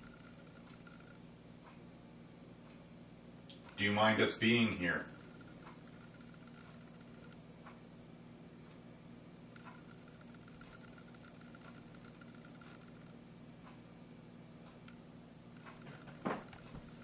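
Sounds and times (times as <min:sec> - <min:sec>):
faint high whine: 0:00.0 - 0:17.0
faint ticks: 0:00.0 - 0:17.0
low steady hum: 0:00.0 - 0:17.0.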